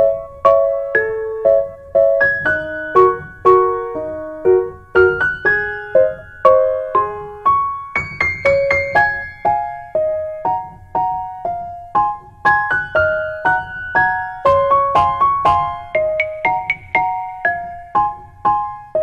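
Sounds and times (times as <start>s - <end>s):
slow keyboard melody: 0.0s - 19.0s.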